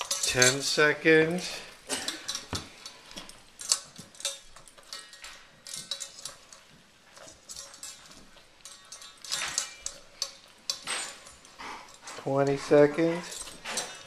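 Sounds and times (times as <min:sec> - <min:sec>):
dog eating kibble from metal bowl: 0:00.0 - 0:14.0.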